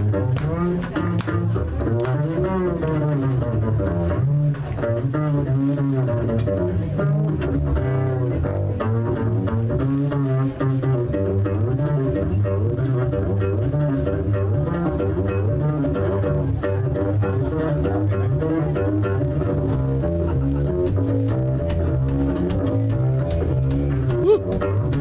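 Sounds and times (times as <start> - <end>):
double bass solo: 0.0 - 25.0.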